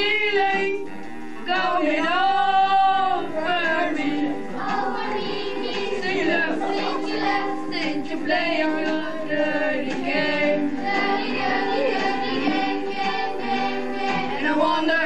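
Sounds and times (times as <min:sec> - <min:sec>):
keyboard accompaniment: 0:00.0 - 0:15.0
children singing rock song: 0:01.4 - 0:15.0.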